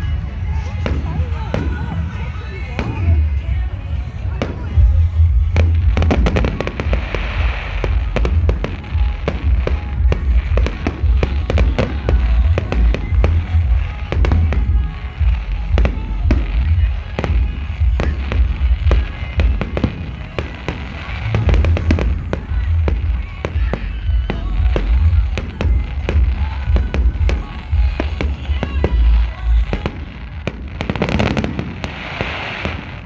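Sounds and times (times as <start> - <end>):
heavy low rumble: 0.0 - 32.0
fireworks bangs and crackles: 0.0 - 33.0.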